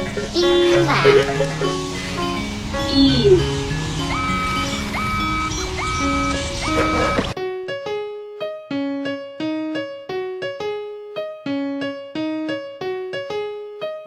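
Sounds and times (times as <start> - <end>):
instrumental backing track: 0.0 - 14.0
solo piano melody: 0.0 - 14.0.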